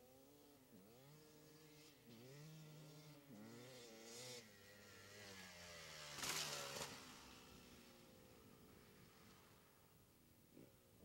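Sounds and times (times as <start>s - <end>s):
distant dirt bike engine revving: 0.0s - 9.8s.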